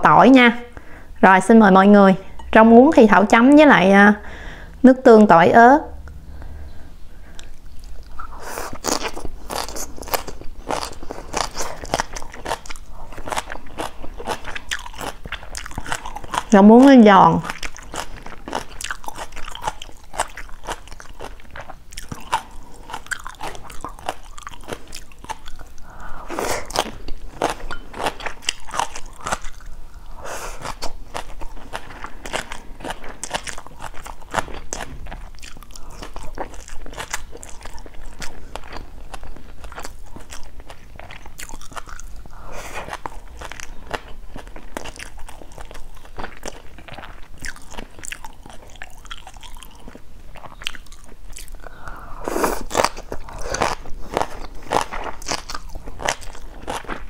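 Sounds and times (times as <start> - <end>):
crunchy chewing: 7.2 - 57.0.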